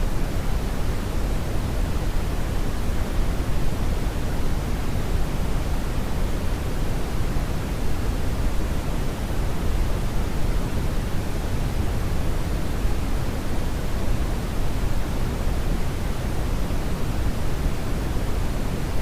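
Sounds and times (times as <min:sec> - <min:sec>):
brownian noise hiss-rumble: 0:00.0 - 0:19.0.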